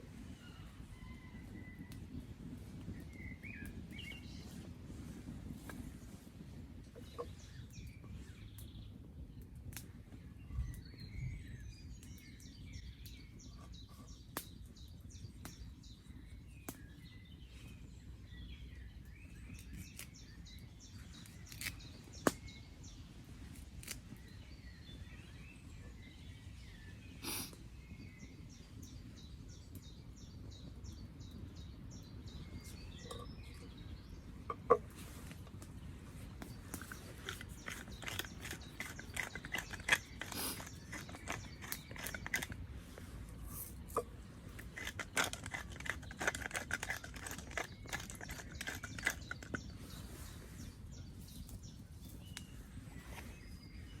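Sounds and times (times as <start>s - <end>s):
birds chirping: 5.5s - 23.1s, 24.0s - 54.0s.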